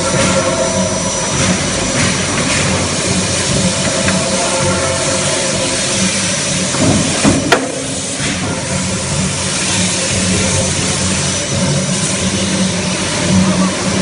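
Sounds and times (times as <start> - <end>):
forge machinery hiss and hum: 0.0 - 14.0.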